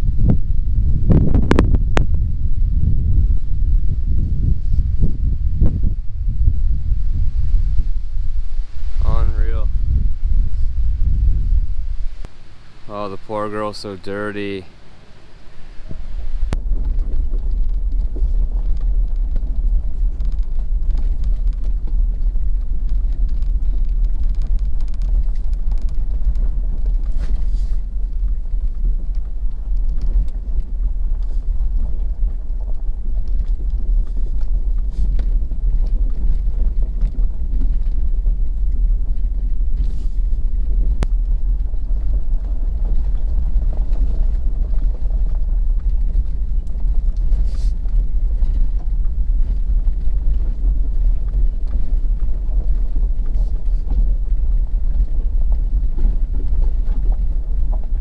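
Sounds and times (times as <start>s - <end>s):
tyres on rough gravel: 2.8s - 58.0s.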